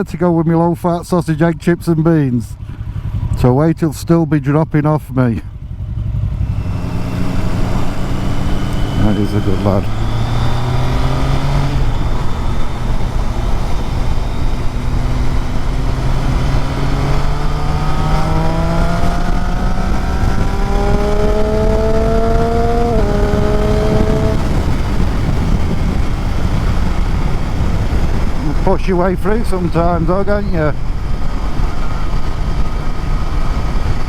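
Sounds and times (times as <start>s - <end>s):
motorcycle engine pulling hard: 5.5s - 34.0s
wind on microphone: 5.5s - 34.0s.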